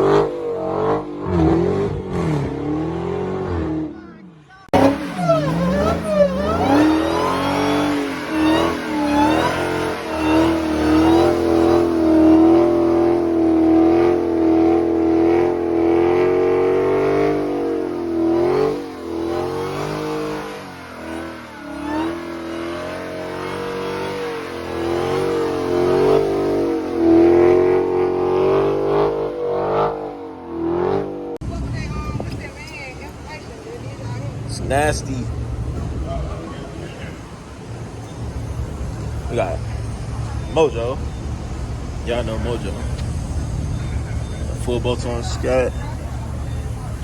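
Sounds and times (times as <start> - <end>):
car engine revving: 0.0 - 47.0
supercharger whine: 0.0 - 47.0.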